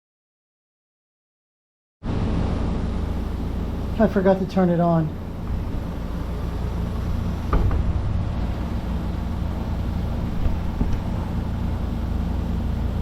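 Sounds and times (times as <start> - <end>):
low machine hum: 2.0 - 13.0.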